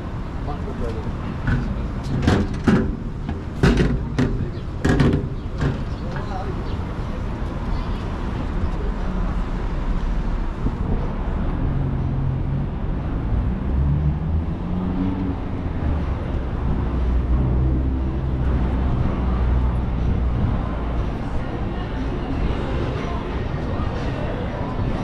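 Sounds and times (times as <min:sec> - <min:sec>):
city street traffic: 0:00.0 - 0:25.0
vehicle engine hum: 0:00.0 - 0:25.0.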